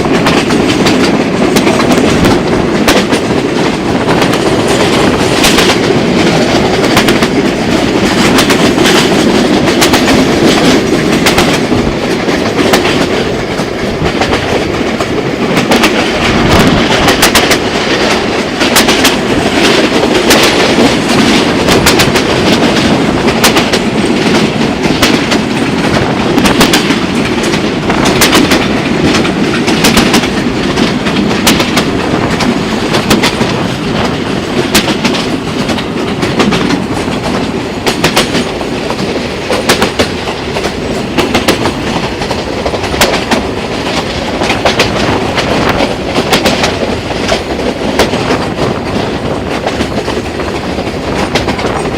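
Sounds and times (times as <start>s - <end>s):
train wheels clattering over rail joints: 0.0s - 51.9s.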